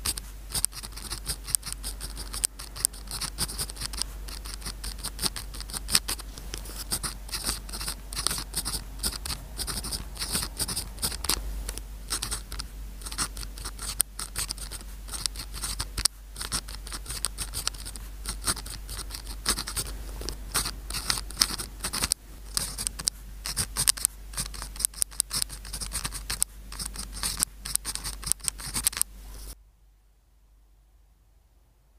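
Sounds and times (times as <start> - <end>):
pen scratching on paper: 0.0 - 29.6.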